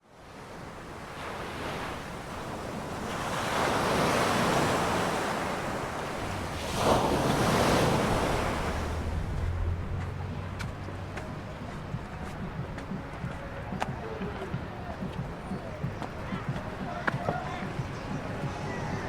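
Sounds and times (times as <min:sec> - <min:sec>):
waves breaking on beach: 0:00.0 - 0:19.0
wind buffeting microphone: 0:00.4 - 0:19.0.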